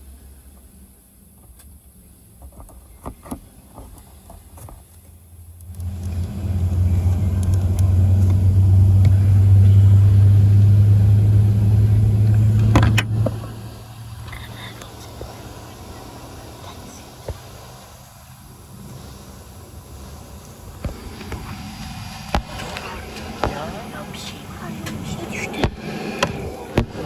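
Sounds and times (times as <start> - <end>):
low aircraft engine hum: 0.0 - 27.0.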